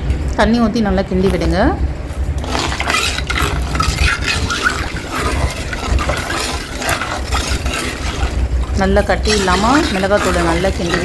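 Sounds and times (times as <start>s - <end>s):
gravy sloshing in a pot: 2.2s - 11.0s.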